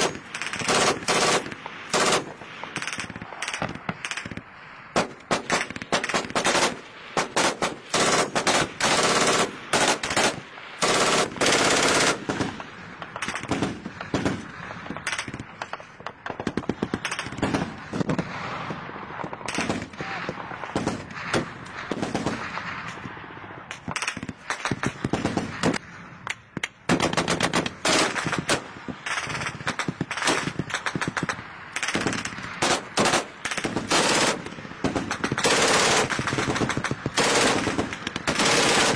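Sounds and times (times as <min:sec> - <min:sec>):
machine-gun fire bursts: 0:00.0 - 0:04.4, 0:05.0 - 0:15.7, 0:19.5 - 0:20.0, 0:20.6 - 0:22.6, 0:23.9 - 0:25.8, 0:26.9 - 0:38.9.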